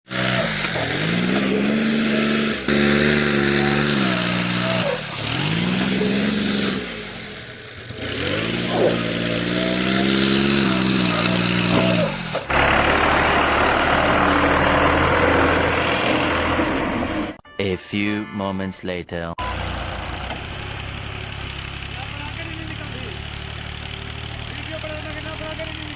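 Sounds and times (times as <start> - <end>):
tractor engine revving: 0.0 - 17.4, 19.4 - 25.9.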